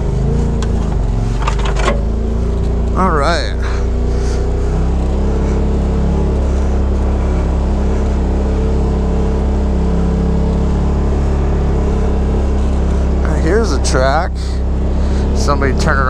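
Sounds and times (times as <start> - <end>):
engine running at steady pitch: 0.0 - 16.0.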